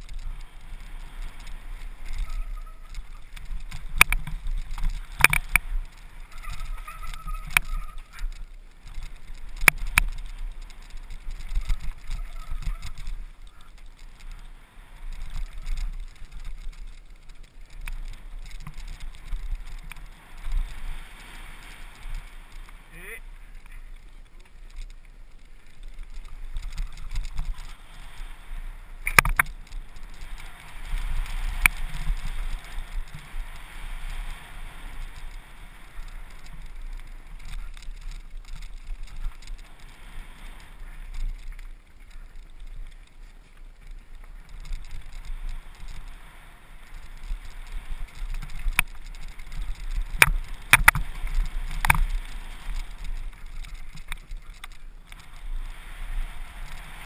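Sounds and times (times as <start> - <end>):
bike clacking over bumps: 0.0 - 55.7
wind rumble on microphone: 0.0 - 57.0.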